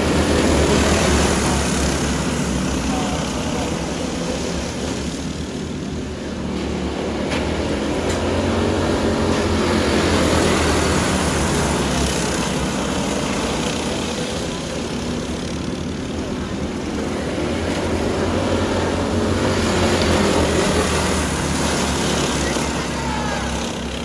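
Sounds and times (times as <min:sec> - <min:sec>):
go-kart engines running hard: 0:00.0 - 0:24.0.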